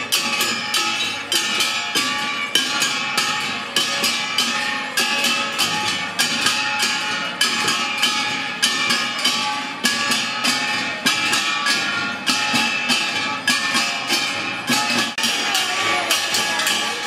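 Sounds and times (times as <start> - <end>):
ringing metal percussion: 0.0 - 17.0.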